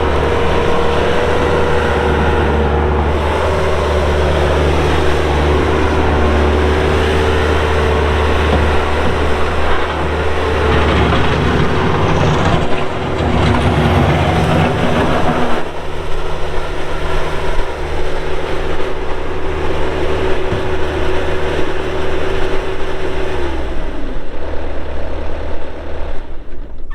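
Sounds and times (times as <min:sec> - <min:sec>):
diesel loader engine running: 0:00.0 - 0:26.9.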